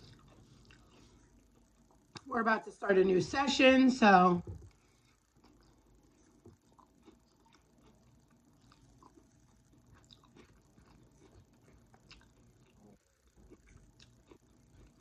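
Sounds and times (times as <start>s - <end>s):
faint chewing with wet mouth clicks: 0.0s - 2.3s, 4.6s - 15.0s.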